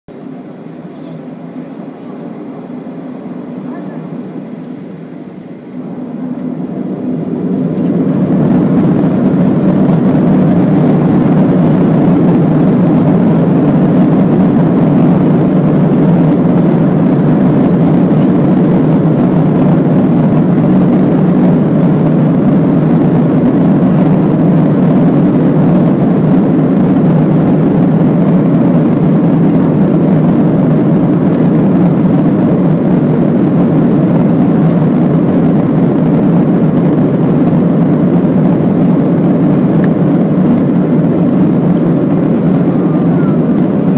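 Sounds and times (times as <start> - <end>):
runway rumble: 0.1 - 43.9
jet engines spooling up: 0.2 - 43.9.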